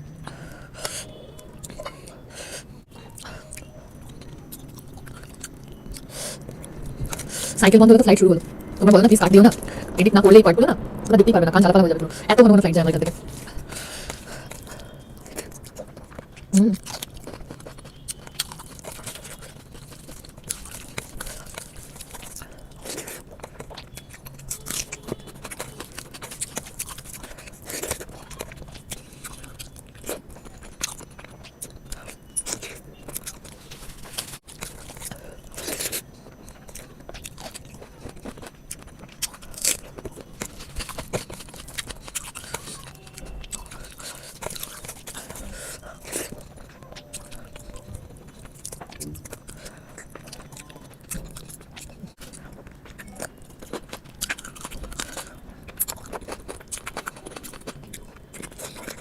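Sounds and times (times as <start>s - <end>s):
crunchy chewing: 0.0s - 10.0s, 13.0s - 59.0s.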